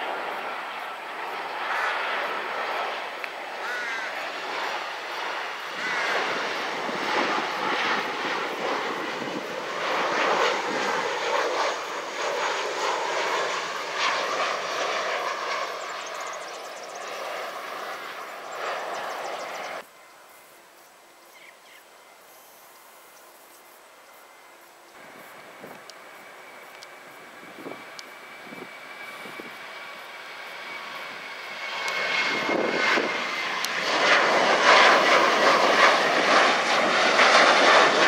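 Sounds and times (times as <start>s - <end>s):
jet engines roaring: 0.0s - 19.8s, 24.9s - 38.0s
faint outdoor background: 0.0s - 38.0s.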